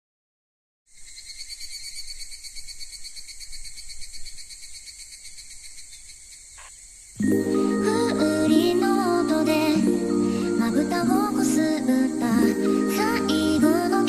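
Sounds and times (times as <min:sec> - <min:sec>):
insects chirring: 0:00.9 - 0:14.0.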